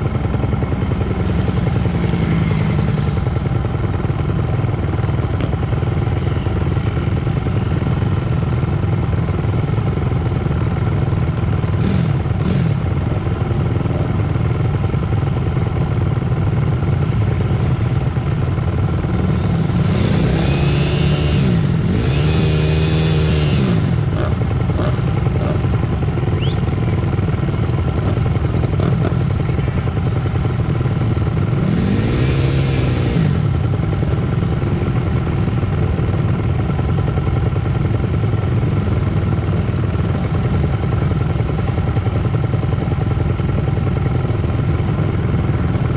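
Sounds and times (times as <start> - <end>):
pit bike engines revving and passing: 0.0 - 42.5.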